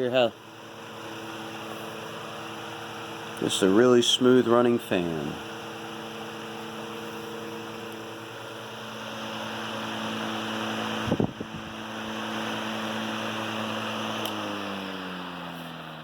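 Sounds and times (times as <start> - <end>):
electric fan humming: 0.0 - 16.0.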